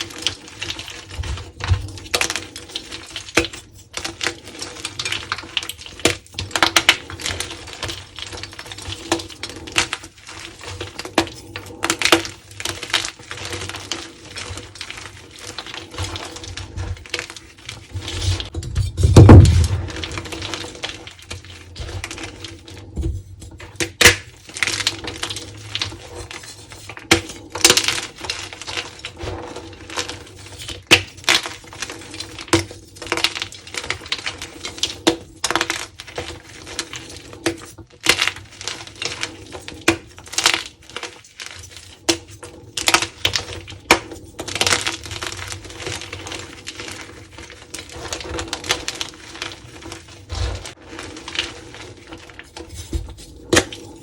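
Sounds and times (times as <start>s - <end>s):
chalk crumbling and cracking: 0.0s - 54.0s.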